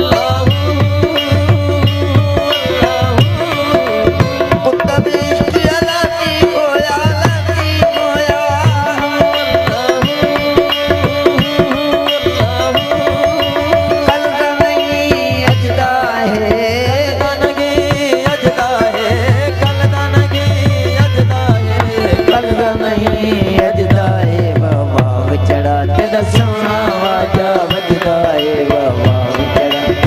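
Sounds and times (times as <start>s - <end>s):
hand drum beat: 0.0s - 30.0s
harmonium chords: 0.0s - 30.0s
man singing: 0.0s - 30.0s.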